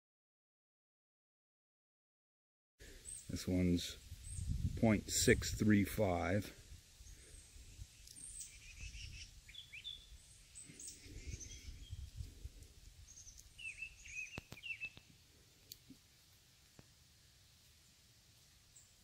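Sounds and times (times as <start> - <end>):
birds chirping faintly: 2.8 - 19.0.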